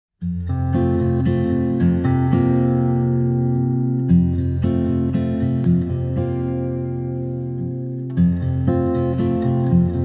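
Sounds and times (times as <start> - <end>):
plucked acoustic guitar: 0.2 - 10.0.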